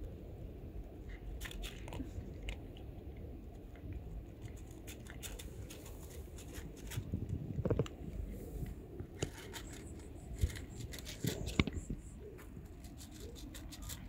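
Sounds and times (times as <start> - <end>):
steady low rumble: 0.0 - 14.0
cat crunching dry kibble: 0.8 - 14.0.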